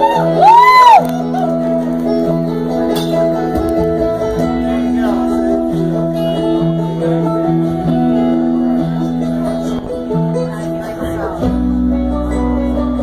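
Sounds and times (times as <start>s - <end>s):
acoustic guitar strumming: 0.0s - 13.0s
banjo: 0.0s - 13.0s
upright bass: 0.0s - 13.0s.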